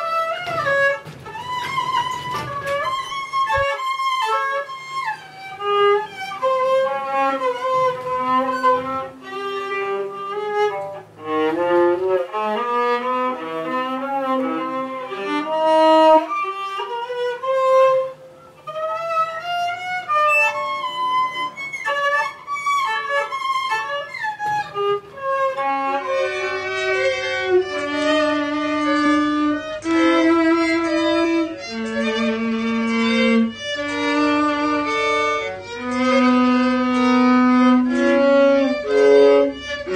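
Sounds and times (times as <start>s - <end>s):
violin playing slow melody: 0.0s - 39.9s.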